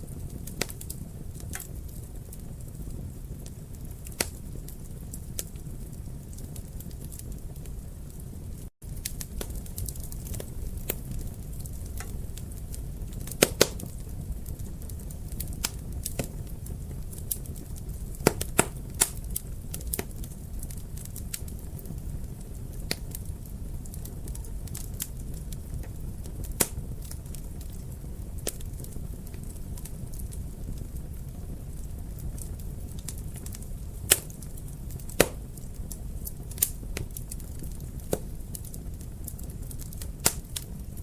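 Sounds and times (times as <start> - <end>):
fire crackling and popping: 0.0 - 41.0
flames rumbling: 0.0 - 41.0.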